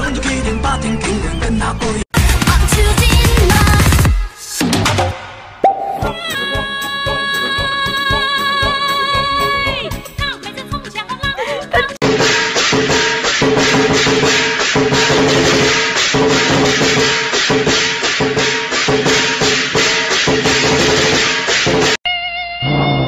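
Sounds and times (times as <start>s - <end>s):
upbeat music with fast beat: 2.1s - 22.0s.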